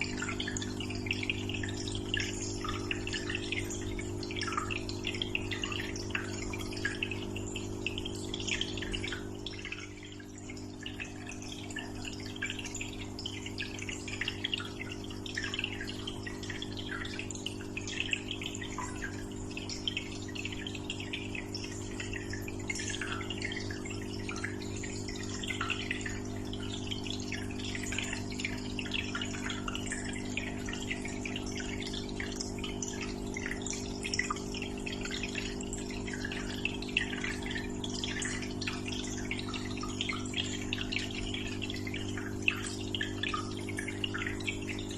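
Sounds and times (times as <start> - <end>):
aquarium pump hum: 0.0 - 44.9
aquarium water trickling: 0.0 - 44.9.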